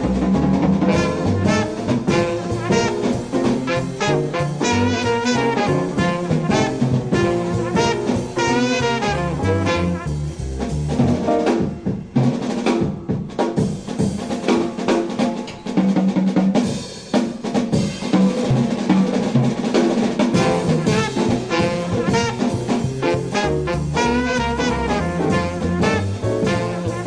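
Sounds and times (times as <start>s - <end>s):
drum kit: 0.0s - 27.0s
swing jazz music: 0.0s - 27.0s.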